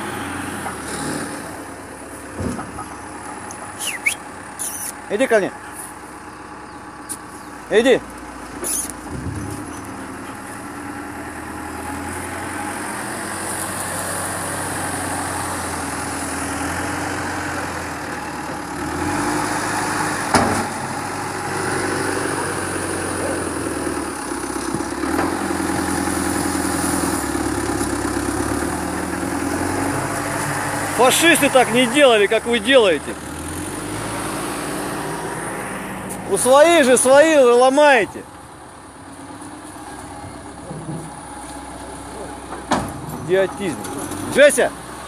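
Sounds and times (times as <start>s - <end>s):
bulldozer diesel engine working: 0.0s - 45.0s.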